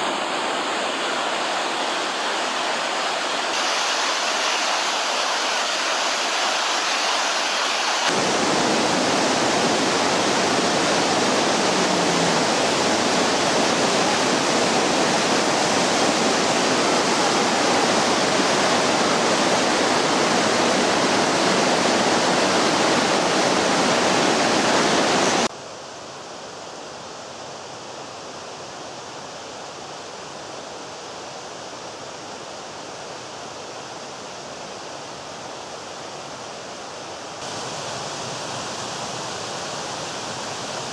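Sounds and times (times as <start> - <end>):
stream rushing over rocks: 0.0 - 25.5, 28.4 - 40.9.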